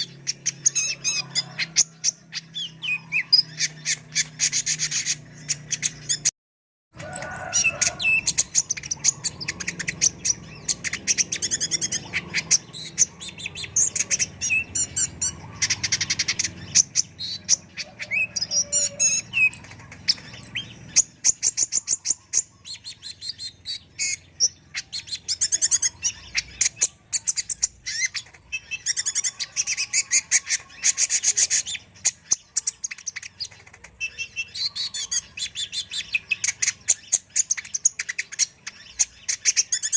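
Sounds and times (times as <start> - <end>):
sunbird singing trills: 0.0 - 6.3, 7.0 - 39.9.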